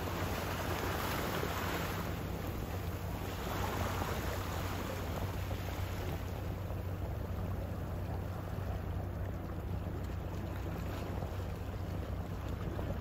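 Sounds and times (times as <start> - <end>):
ship low hum: 0.0 - 13.0.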